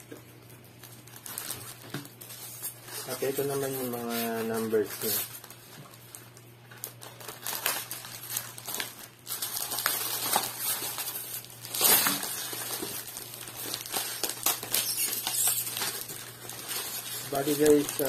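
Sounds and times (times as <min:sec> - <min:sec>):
plastic bags crinkling: 0:00.4 - 0:18.0.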